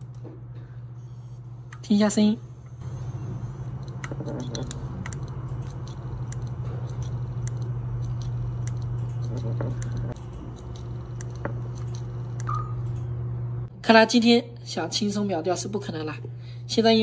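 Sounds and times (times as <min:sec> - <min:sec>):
hard drive humming: 0:00.0 - 0:13.7.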